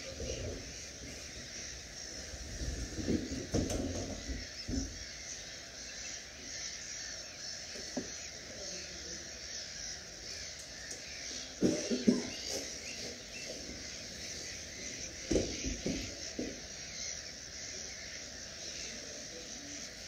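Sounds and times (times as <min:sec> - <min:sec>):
steady background hiss: 0:00.0 - 0:20.0
terns giving harsh calls: 0:00.0 - 0:20.0.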